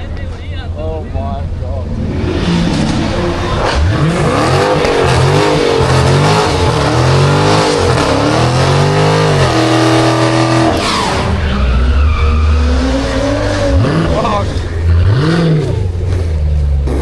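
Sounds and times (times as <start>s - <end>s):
car engine revving: 1.2s - 17.0s.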